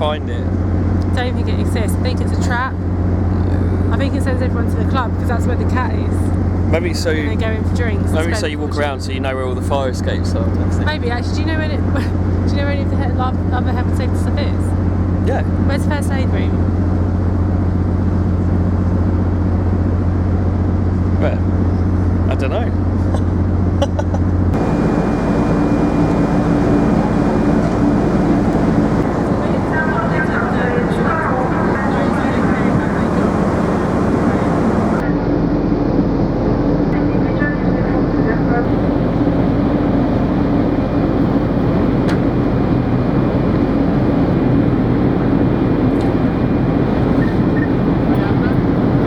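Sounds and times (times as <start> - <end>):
ferry engines rumbling: 0.0 - 49.0.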